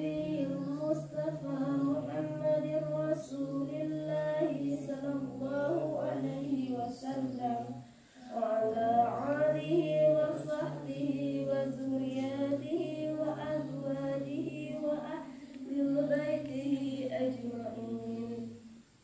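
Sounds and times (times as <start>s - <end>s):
group chanting: 0.0s - 18.8s
woman chanting: 0.0s - 18.8s.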